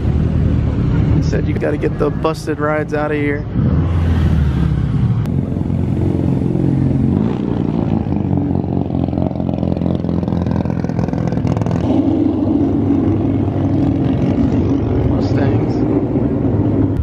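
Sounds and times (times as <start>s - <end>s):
cars driving slowly past: 0.0s - 17.0s.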